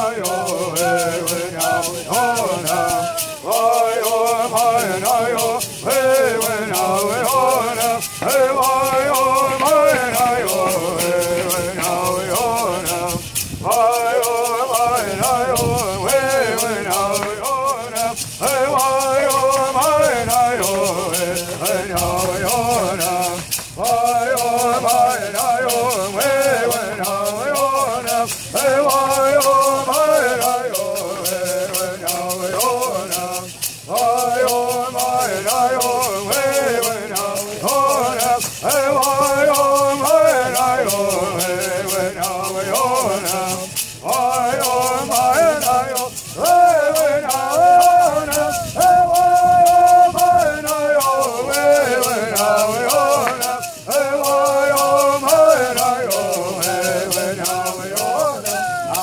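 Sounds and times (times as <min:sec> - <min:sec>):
gourd rattles: 0:00.0 - 0:59.0
group singing in unison: 0:00.0 - 0:59.0.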